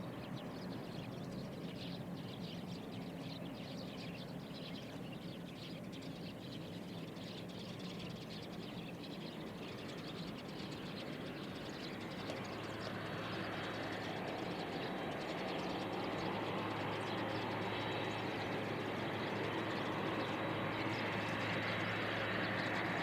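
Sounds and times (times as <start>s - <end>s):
birds chirping faintly: 0.0s - 23.0s
distant jet airliner engine: 0.0s - 23.0s.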